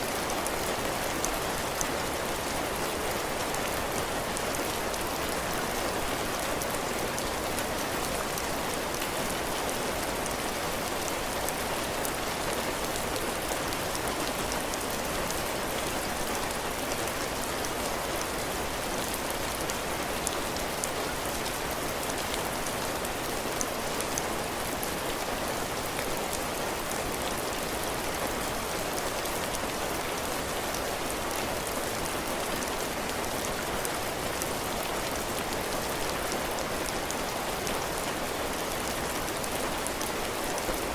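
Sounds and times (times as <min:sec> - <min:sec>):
heavy rain on roof and ground: 0:00.0 - 0:40.9.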